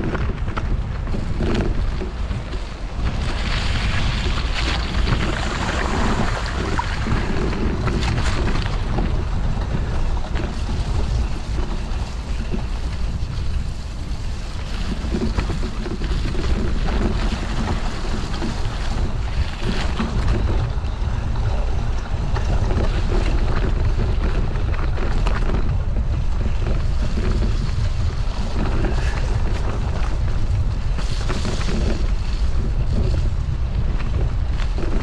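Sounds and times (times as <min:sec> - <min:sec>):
crackles: 0:00.0 - 0:35.0
wind buffeting microphone: 0:00.0 - 0:35.0.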